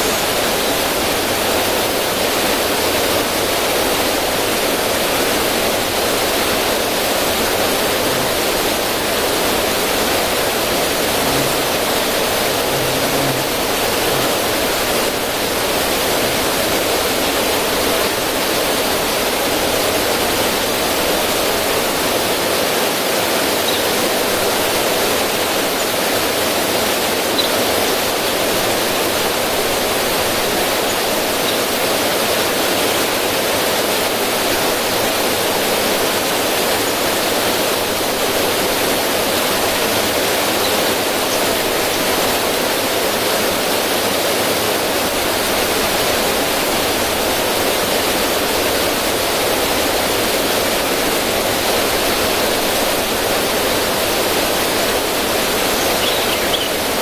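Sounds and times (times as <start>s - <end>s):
river splashing over rocks: 0.0s - 57.0s.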